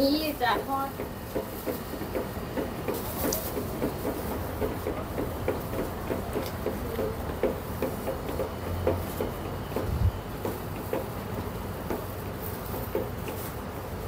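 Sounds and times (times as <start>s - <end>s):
roller drive clicking: 0.0s - 14.0s.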